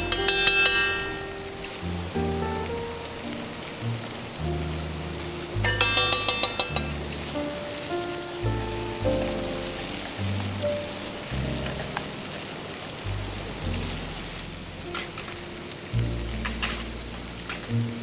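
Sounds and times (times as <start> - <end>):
background music with bass: 0.0 - 12.4, 13.0 - 18.0
food sizzling in a pan: 0.0 - 18.0.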